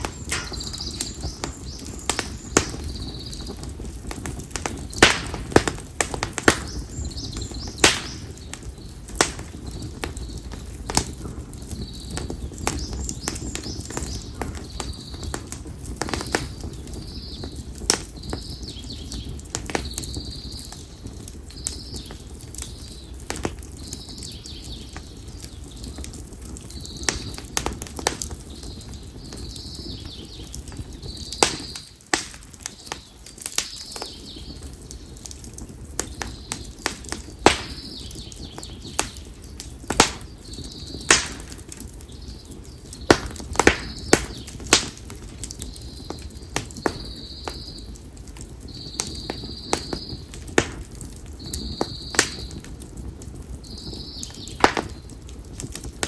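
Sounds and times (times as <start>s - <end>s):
bonfire crackling and popping: 0.0s - 56.0s
low rumble of fire: 0.0s - 56.0s.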